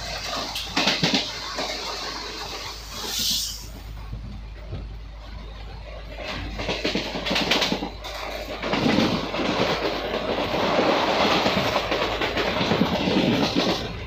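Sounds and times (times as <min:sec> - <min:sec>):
continuous train rumble: 0:00.0 - 0:14.0
train wheels clattering on rails: 0:00.0 - 0:14.0.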